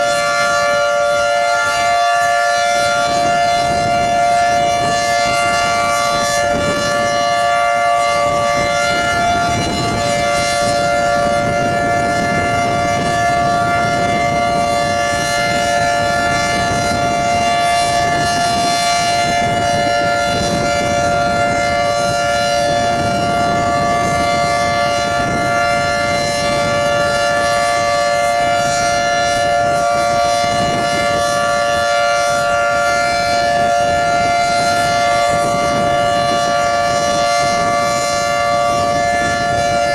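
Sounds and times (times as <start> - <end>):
dual-tone siren steady tone: 0.0 - 39.9.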